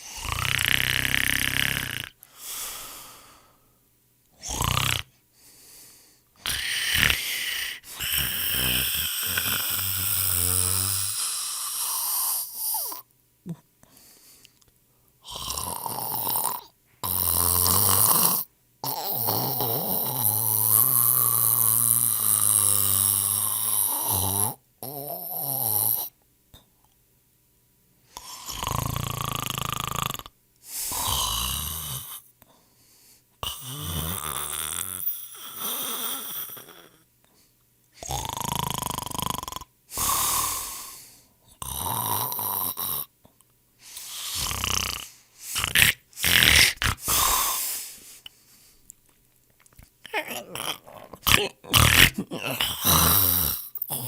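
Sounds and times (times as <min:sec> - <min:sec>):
person snoring: 0:00.0 - 0:03.6, 0:04.4 - 0:05.2, 0:06.4 - 0:13.6, 0:15.2 - 0:26.2, 0:28.1 - 0:32.3, 0:33.4 - 0:37.1, 0:38.0 - 0:43.1, 0:43.8 - 0:48.3, 0:50.0 - 0:54.0.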